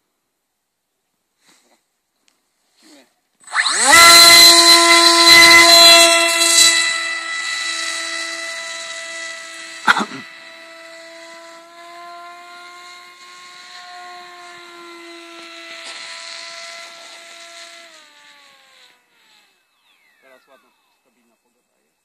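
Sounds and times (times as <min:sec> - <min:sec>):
electric motor and propeller whine: 0:03.4 - 0:21.6.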